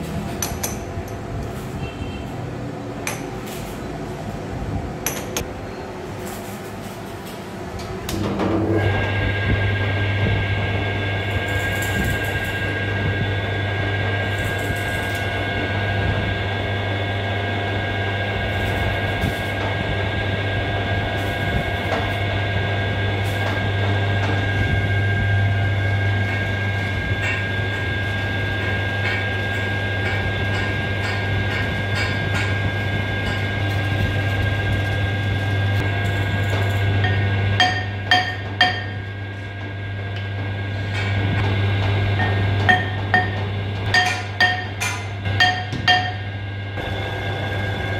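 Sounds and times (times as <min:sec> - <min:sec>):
metal lathe running: 0:08.1 - 0:47.9.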